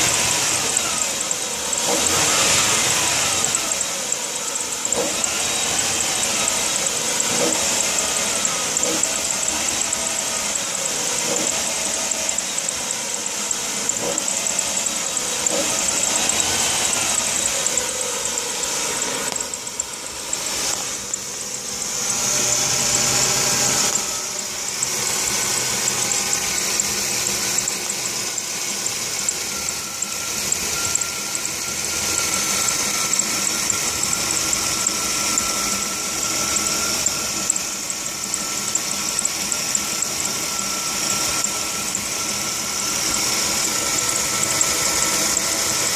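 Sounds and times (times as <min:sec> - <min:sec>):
car engine running: 0:00.0 - 0:45.9
drive belt squealing: 0:00.0 - 0:45.9.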